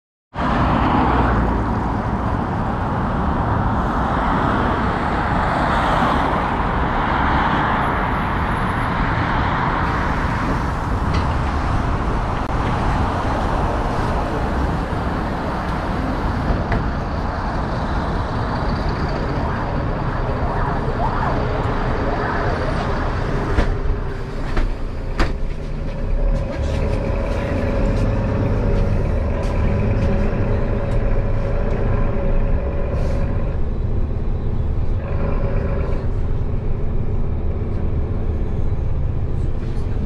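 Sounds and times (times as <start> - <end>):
road traffic: 0.3 - 40.0
city bus engine running: 0.5 - 40.0.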